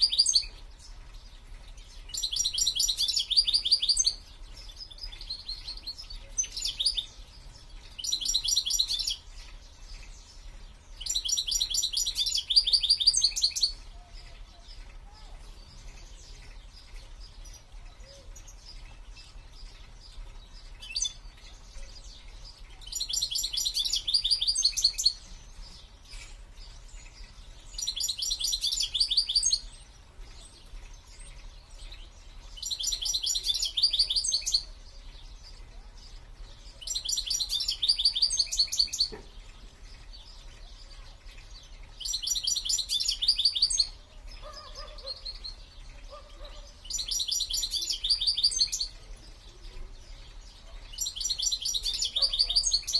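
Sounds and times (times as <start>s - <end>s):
songbird trilling: 0.0s - 52.9s.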